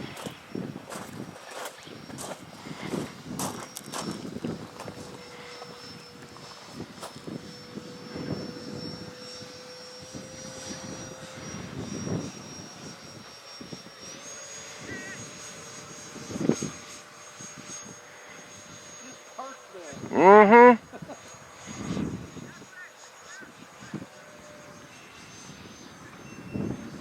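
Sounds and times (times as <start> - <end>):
wind buffeting microphone: 0.0 - 18.9, 20.9 - 22.7, 23.5 - 27.0
electric fan motor whining: 0.0 - 27.0.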